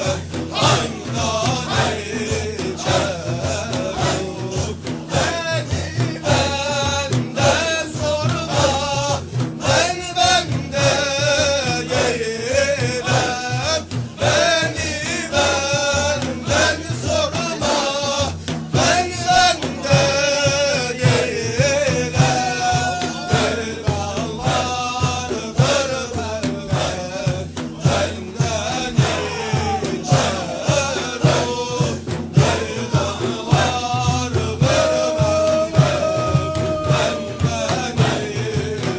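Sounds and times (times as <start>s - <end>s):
rhythmic low pulse: 0.0s - 38.9s
voices singing devotional melody: 0.0s - 38.9s.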